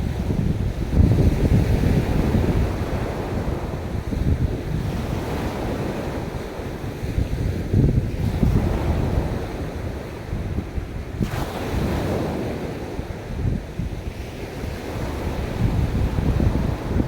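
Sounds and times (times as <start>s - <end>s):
ocean waves breaking on beach: 0.0s - 17.0s
wind buffeting microphone: 0.0s - 17.0s.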